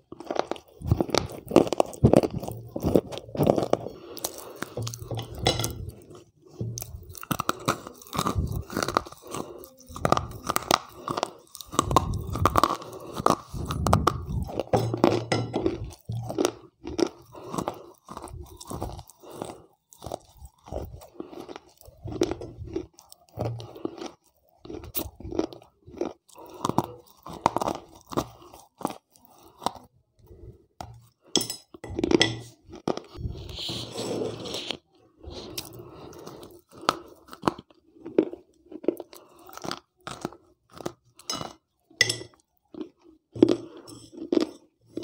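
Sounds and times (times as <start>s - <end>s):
gritty crunching and chewing: 0.0s - 45.0s.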